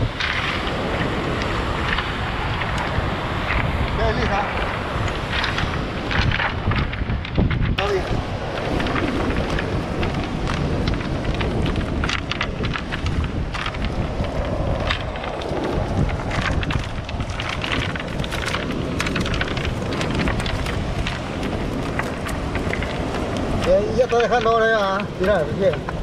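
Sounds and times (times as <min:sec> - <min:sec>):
rough surf: 0:00.0 - 0:26.0
wind buffeting microphone: 0:00.0 - 0:26.0.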